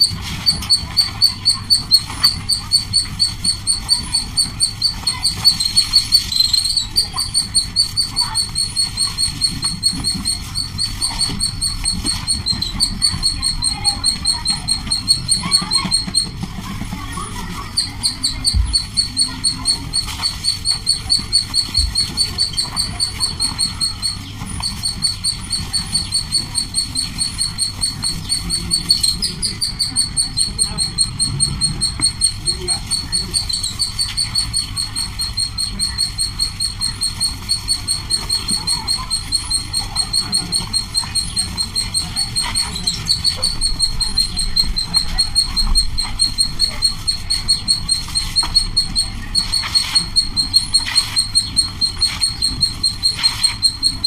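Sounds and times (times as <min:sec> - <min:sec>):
bird chirping rapidly: 0:00.0 - 0:16.5, 0:17.3 - 0:54.0.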